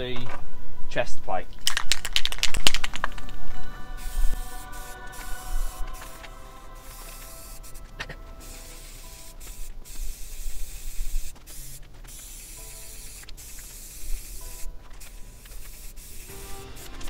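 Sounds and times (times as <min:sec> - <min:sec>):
spray paint can hissing: 0:01.6 - 0:17.0.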